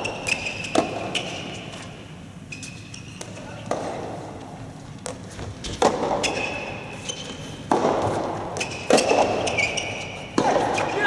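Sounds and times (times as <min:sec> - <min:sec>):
rackets hitting ball echoing: 0:00.0 - 0:02.1, 0:03.1 - 0:07.0, 0:07.6 - 0:11.0.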